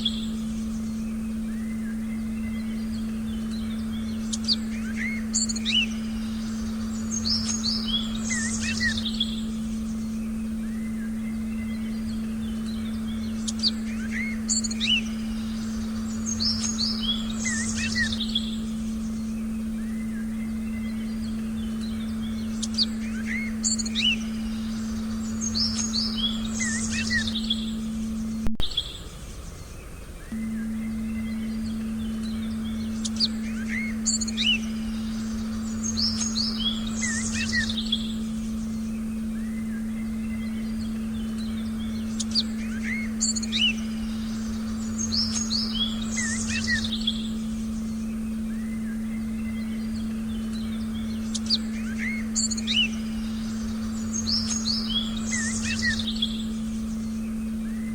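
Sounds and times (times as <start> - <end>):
low electronic tone: 0.0 - 28.8, 30.3 - 57.9
small birds chirping: 0.0 - 57.9
soft background hiss: 0.0 - 57.9.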